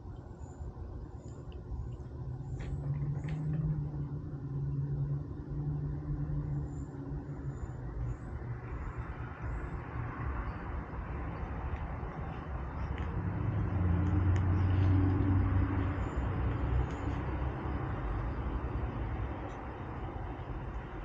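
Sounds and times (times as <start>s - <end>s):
road noise rush: 0.0s - 21.0s
vehicle engine hum: 0.0s - 21.0s.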